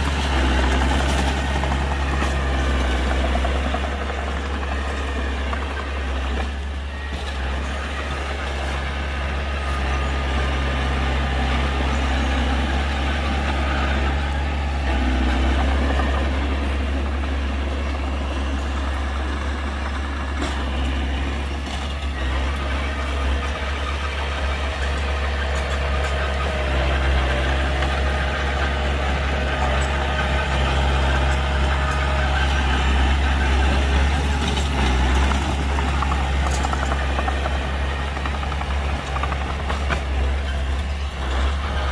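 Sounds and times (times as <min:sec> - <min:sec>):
heavy diesel machinery rumbling: 0:00.0 - 0:41.9.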